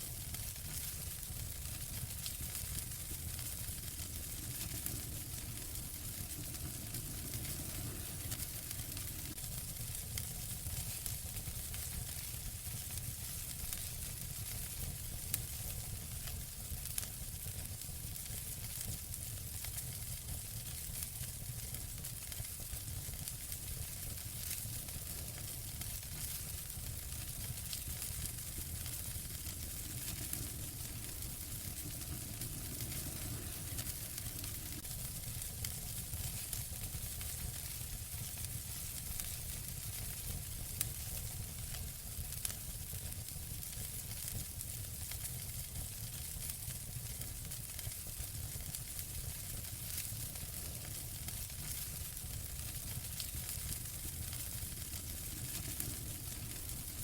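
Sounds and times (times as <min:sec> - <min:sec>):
fire crackling and popping: 0:00.0 - 0:57.0
wood fire hissing: 0:00.0 - 0:57.0.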